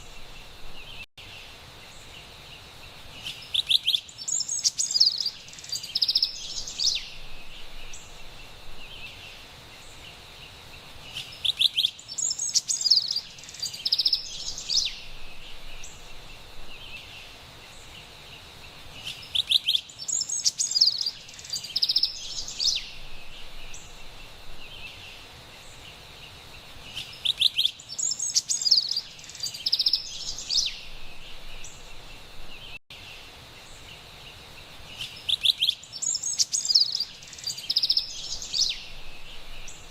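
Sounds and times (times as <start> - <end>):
soft bird chirping: 3.2 - 32.8, 33.6 - 39.9.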